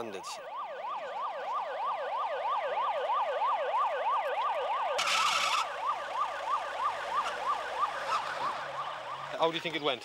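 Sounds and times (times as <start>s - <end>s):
police siren yelping: 0.2s - 9.8s.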